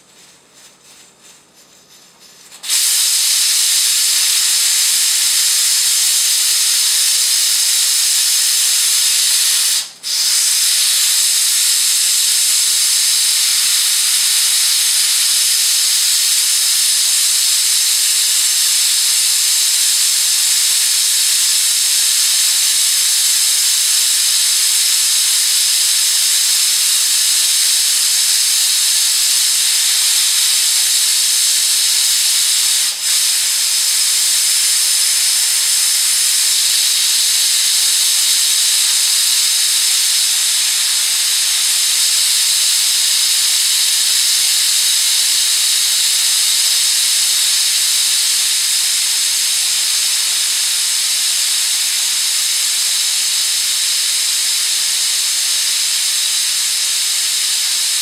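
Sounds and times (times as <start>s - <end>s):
pressure cooker steam hissing: 0.0s - 58.0s.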